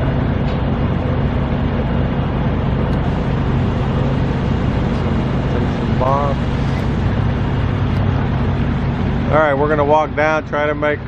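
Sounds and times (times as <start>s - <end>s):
loud rumble with low hum: 0.0s - 11.0s.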